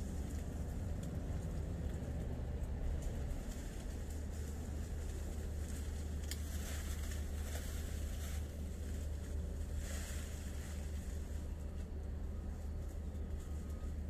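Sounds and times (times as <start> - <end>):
leaves and branches rustling: 0.0 - 14.0.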